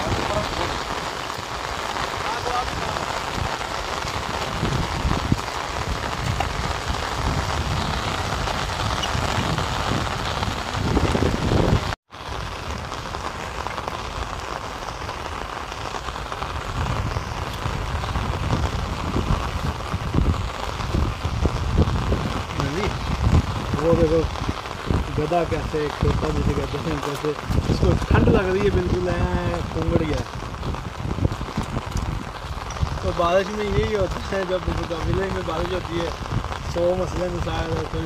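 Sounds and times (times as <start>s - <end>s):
heavy rain on wet ground: 0.0s - 38.0s
low rumbling: 0.0s - 38.0s.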